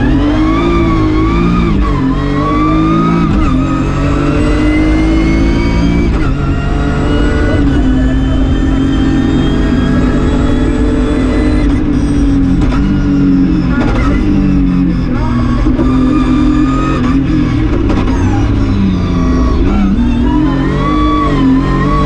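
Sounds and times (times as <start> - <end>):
rally car engine under load: 0.0 - 22.0.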